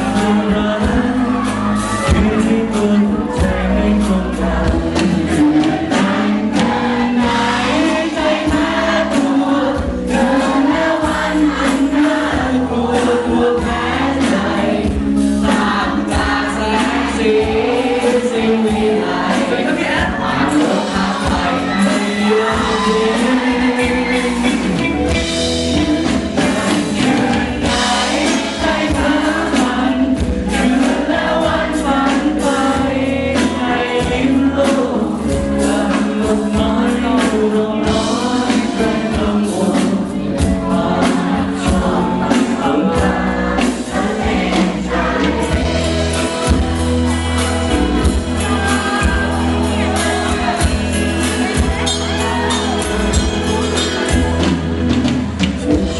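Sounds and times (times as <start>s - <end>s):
song with band accompaniment: 0.0s - 55.9s.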